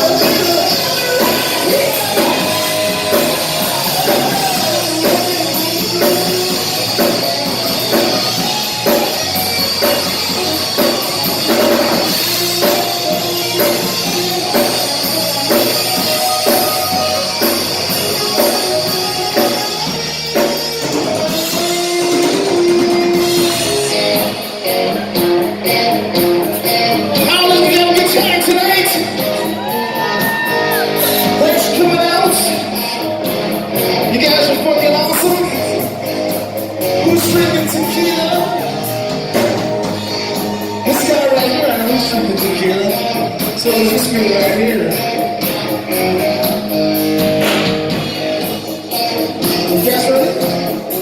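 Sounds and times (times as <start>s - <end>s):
drum kit: 0.0s - 51.0s
electric guitar: 0.0s - 51.0s
rock band playing: 0.0s - 51.0s.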